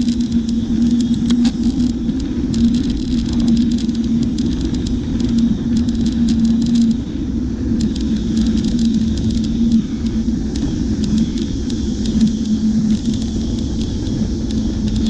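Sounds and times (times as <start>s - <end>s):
bicycle rumble and hum: 0.0s - 15.0s.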